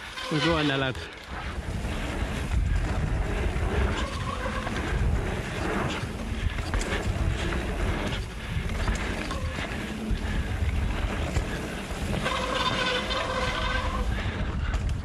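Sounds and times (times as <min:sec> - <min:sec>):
bike rattling and knocking: 0:00.0 - 0:15.0
tyres rolling on dirt: 0:00.0 - 0:15.0
wind buffeting microphone: 0:00.0 - 0:15.0.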